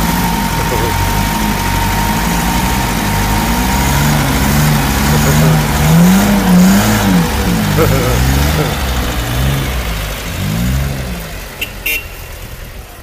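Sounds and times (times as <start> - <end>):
engine revving lightly: 0.0 - 13.0.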